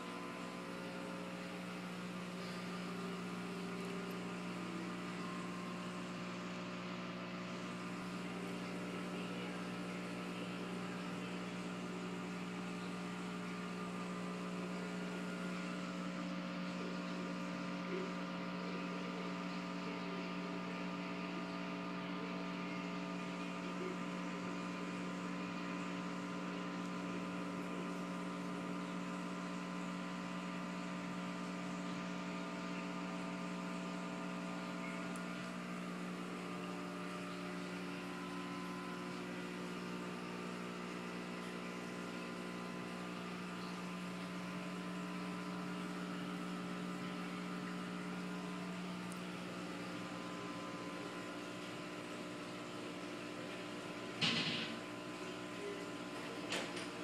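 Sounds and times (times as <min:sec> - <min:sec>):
aquarium equipment humming: 0:00.0 - 0:57.0.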